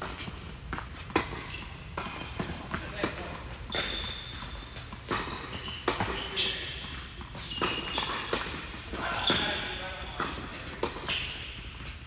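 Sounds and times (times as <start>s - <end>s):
tennis ball hit by rackets: 0.0s - 4.1s, 4.7s - 9.6s, 10.2s - 11.4s.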